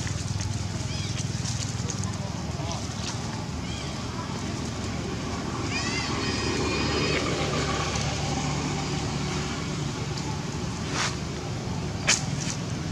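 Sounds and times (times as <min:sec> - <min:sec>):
low rumble of distant traffic: 0:00.0 - 0:12.9.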